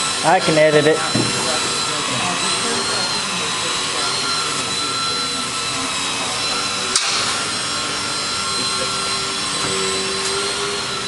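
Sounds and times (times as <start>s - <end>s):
small electric motor whine: 0.0s - 11.0s.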